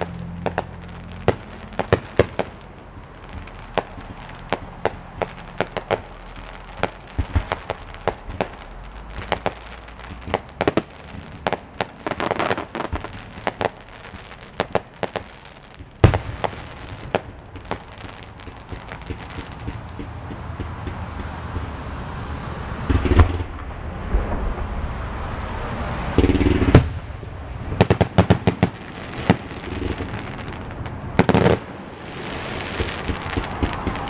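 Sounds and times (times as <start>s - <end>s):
distant fireworks popping: 0.0s - 34.0s.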